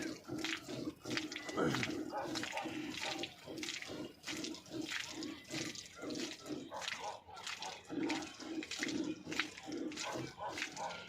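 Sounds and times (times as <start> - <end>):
milk squirting into a bucket: 0.0 - 11.0.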